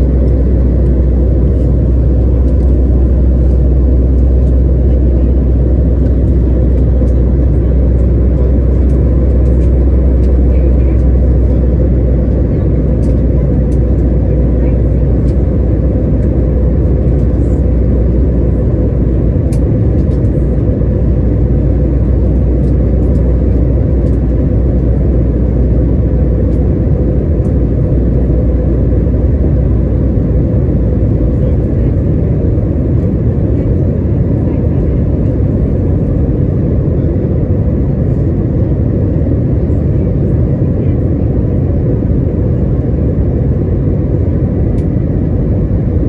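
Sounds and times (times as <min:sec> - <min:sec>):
jet engine and airflow rumble: 0:00.0 - 0:46.0.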